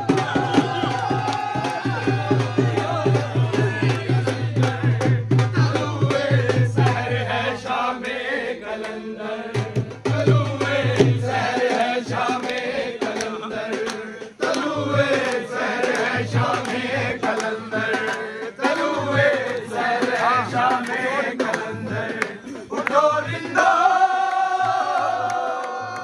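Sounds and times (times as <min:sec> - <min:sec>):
drum beat: 0:00.0 - 0:07.5, 0:08.8 - 0:26.0
person singing devotional song: 0:00.0 - 0:26.0.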